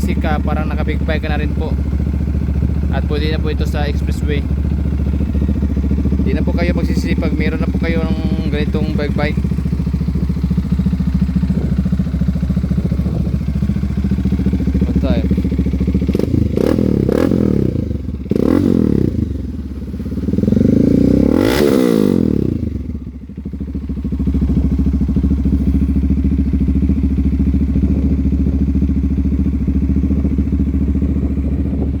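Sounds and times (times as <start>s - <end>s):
motorcycle engine revving and idling: 0.0s - 32.0s.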